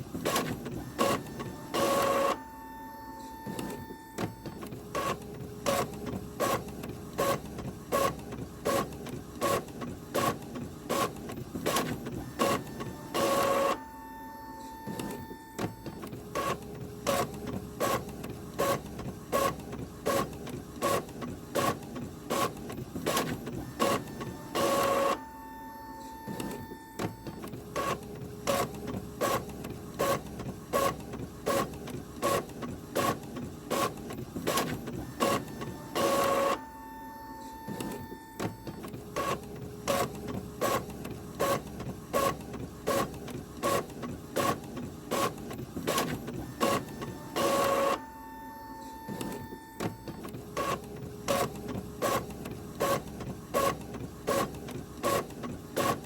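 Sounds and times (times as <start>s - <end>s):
printer whine: 0.0s - 56.0s
printer mechanical strokes: 0.1s - 56.0s.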